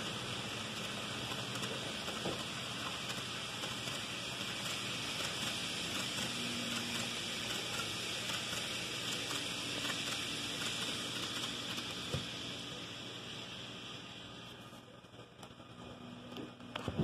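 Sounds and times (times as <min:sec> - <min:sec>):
model train wheels on rails: 0:00.0 - 0:17.0.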